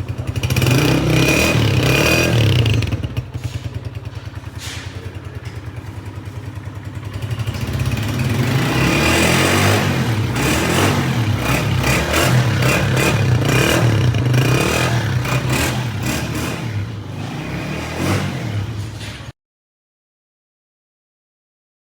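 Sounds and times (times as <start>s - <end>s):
motorcycle engine revving: 0.0s - 19.3s.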